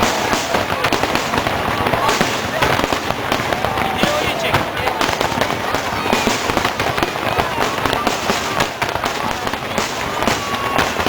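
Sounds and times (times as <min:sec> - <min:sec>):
fireworks bangs and crackling pops: 0:00.0 - 0:11.0.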